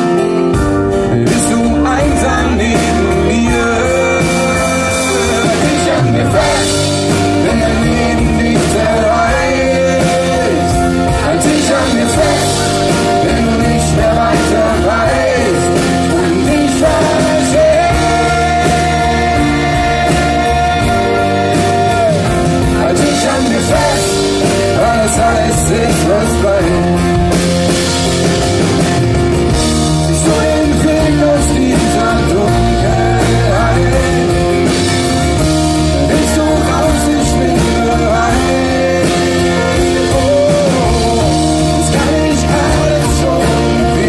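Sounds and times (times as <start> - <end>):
bass and drums: 0.0 - 44.0
strummed acoustic guitars: 0.0 - 44.0
man singing: 0.9 - 28.2, 29.7 - 44.0.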